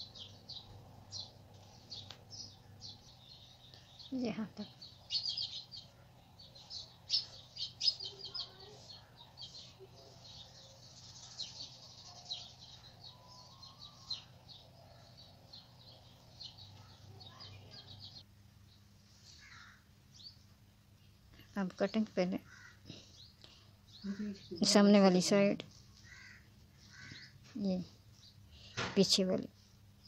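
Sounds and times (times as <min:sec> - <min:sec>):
steady low hum: 0:00.0 - 0:28.8
small birds chirping: 0:00.0 - 0:30.0.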